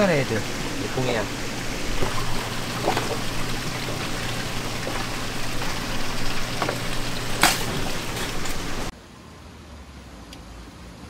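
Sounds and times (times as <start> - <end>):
low steady hum: 0.0 - 8.9
running water: 0.0 - 8.9
short splashes: 0.0 - 8.9.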